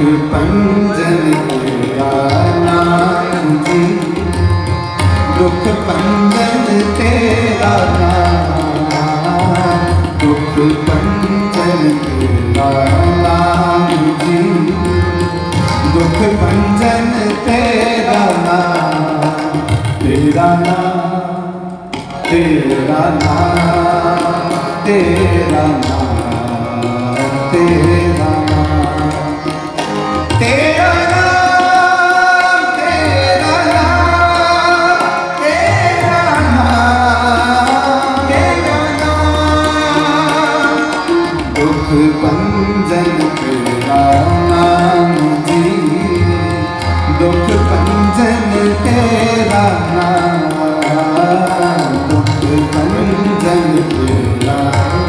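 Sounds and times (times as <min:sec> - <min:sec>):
tabla playing a steady rhythm: 0:00.0 - 0:55.0.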